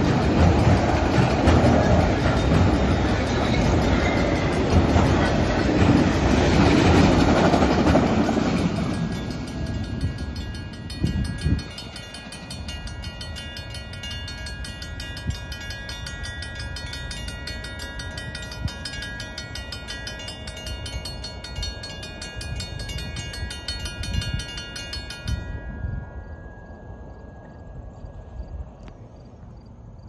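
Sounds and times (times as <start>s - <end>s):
railroad crossing bell ringing: 0.0s - 28.9s.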